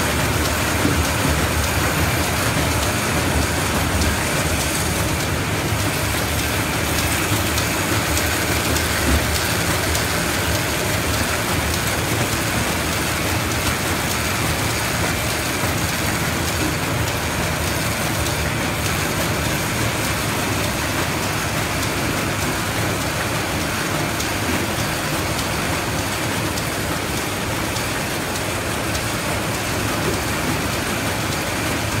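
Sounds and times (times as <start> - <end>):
machine running steadily: 0.0 - 32.0.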